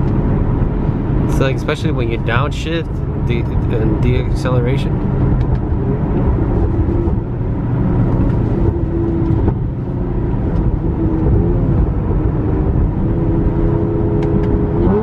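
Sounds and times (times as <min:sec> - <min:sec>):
car engine and exhaust: 0:00.0 - 0:15.0
road rumble: 0:00.0 - 0:15.0.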